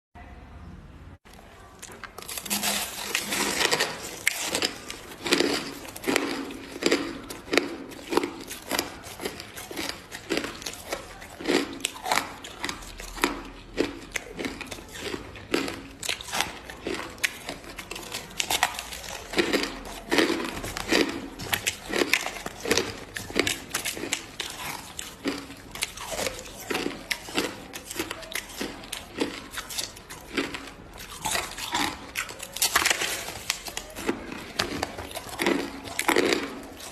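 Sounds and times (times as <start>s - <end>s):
chewing crushed ice: 1.3s - 36.9s.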